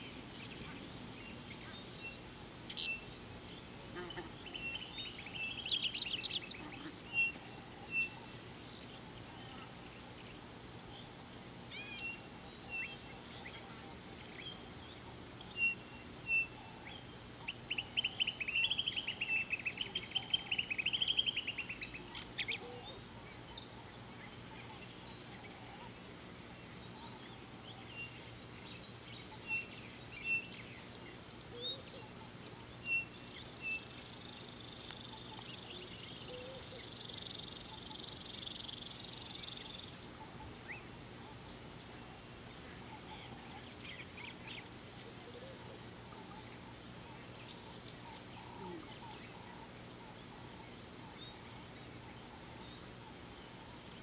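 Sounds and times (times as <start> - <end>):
birds calling: 0.0 - 54.0
faint low hum: 0.0 - 54.0.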